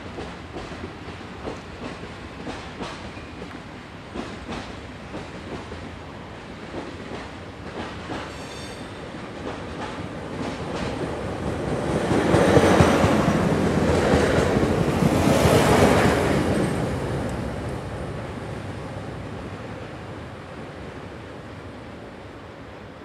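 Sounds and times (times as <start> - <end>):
passenger train passing: 0.0 - 23.0.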